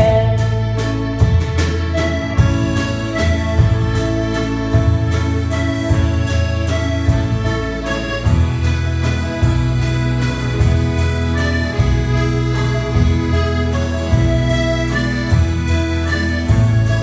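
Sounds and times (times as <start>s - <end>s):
band accompaniment: 0.0s - 17.0s
button accordion melody: 0.0s - 17.0s.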